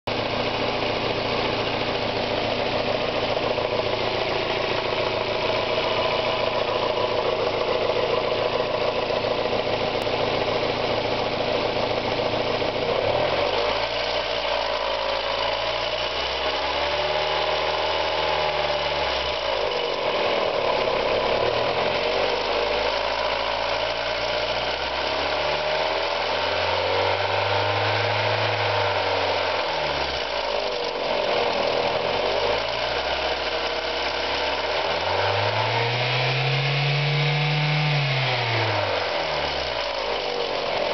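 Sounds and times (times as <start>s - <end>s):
car engine idling and revving: 0.1s - 40.9s.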